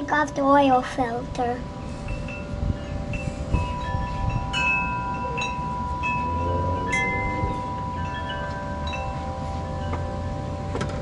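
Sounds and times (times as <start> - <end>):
steady low rumble: 0.0 - 11.0
chimes ringing: 1.5 - 11.0.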